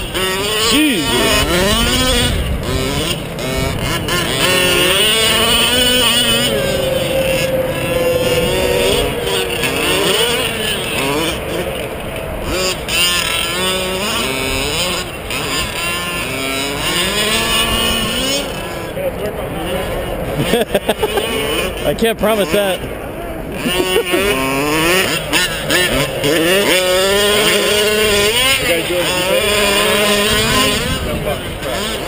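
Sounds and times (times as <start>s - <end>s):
small engines revving: 0.0s - 32.0s.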